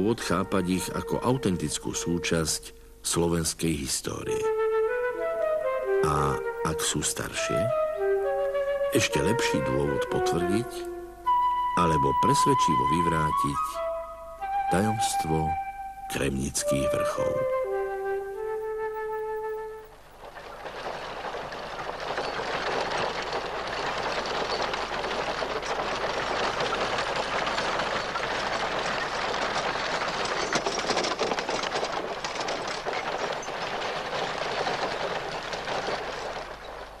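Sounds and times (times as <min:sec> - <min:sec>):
cart wheel rolling rattle: 0:00.0 - 0:37.0.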